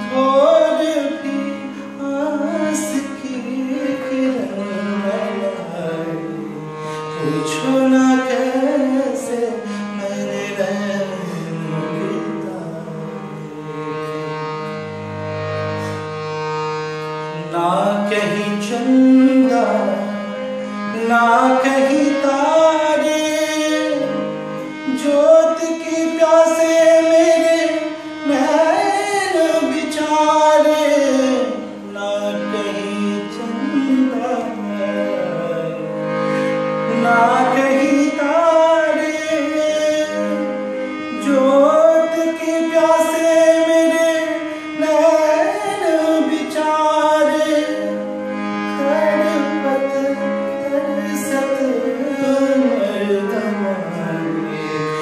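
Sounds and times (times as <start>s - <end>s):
man singing: 0.0s - 13.8s, 17.4s - 54.8s
harmonium: 0.0s - 55.0s.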